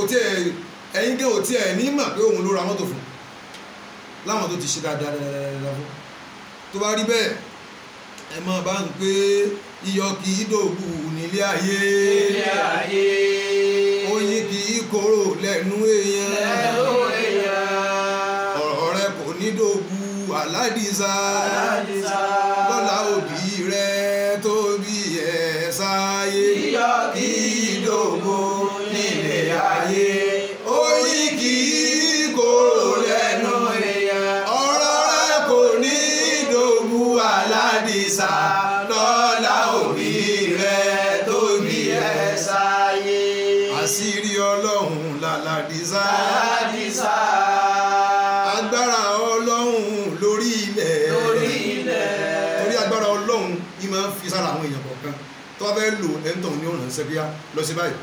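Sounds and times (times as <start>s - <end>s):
man chanting: 0.0s - 3.1s, 8.3s - 58.0s.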